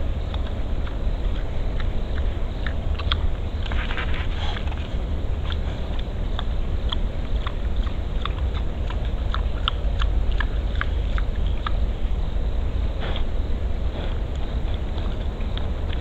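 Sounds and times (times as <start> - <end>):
boar crunching and chewing: 0.0 - 16.0
steady low rumble: 0.0 - 16.0.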